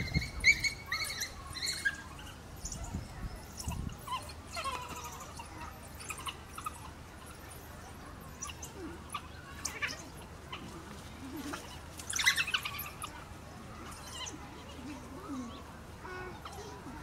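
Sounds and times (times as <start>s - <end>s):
wild dogs squeaking and whining: 0.0s - 15.6s.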